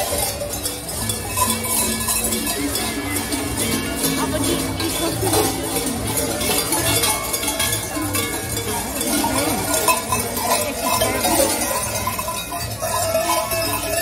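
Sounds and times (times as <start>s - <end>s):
crowd chatter: 0.0s - 14.0s
large cowbells clanging: 0.0s - 14.0s.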